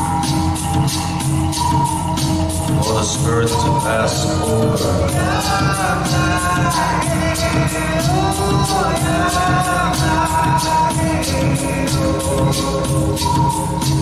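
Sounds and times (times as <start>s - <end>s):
high percussion beat: 0.0s - 14.0s.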